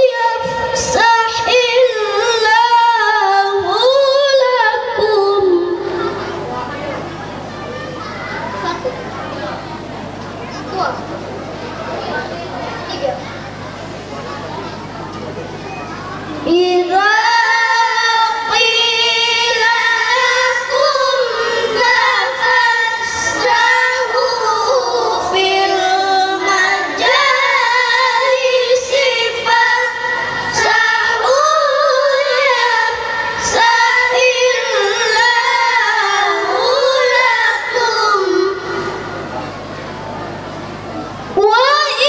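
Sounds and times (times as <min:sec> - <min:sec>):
children reciting over loudspeakers: 0:00.0 - 0:42.0.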